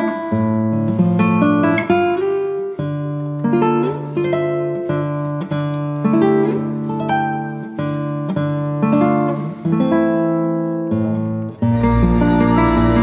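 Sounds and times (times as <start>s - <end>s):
plucked acoustic guitar music: 0.0s - 13.0s.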